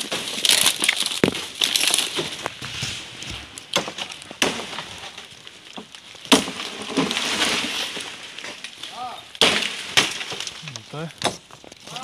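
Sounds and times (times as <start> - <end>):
rustling and crackling fronds: 0.0 - 12.0.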